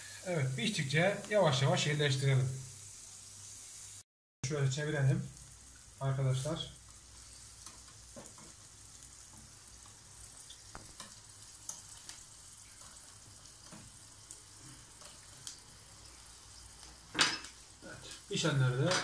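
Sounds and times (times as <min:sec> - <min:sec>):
meat sizzling on grill: 0:00.0 - 0:19.0.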